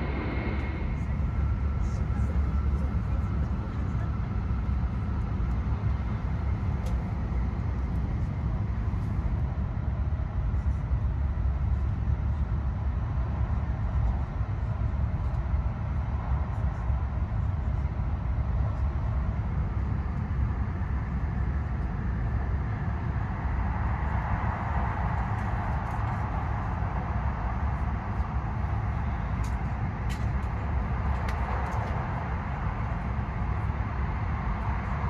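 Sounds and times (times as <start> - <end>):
train cabin rumble of wheels and air: 0.0 - 35.0.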